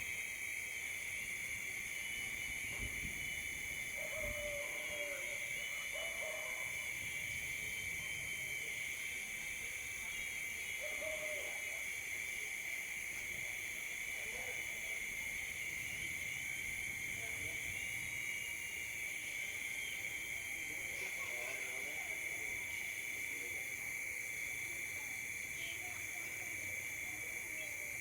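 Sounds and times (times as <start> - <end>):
night insects chorus: 0.0 - 28.0.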